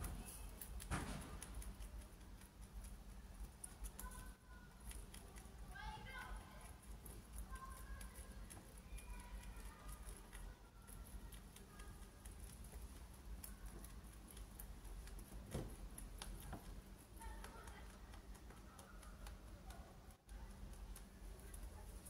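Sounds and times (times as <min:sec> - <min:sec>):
rabbit chewing hay: 0:00.0 - 0:22.0.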